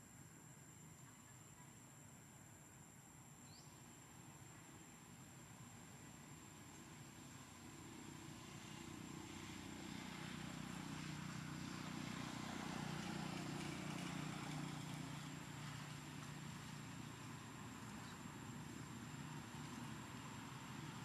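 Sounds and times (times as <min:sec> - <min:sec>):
distant motor vehicle engine hum: 0:03.5 - 0:21.0.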